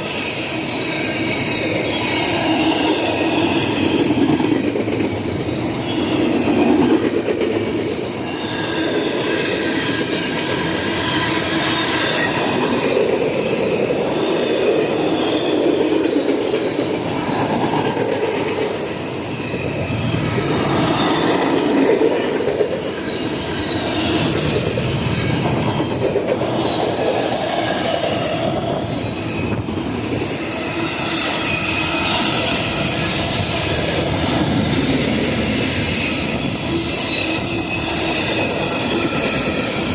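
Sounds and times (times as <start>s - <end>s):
high squealing of wheels: 0.0s - 7.0s, 7.9s - 39.9s
train wheels rolling on rails: 0.0s - 39.9s.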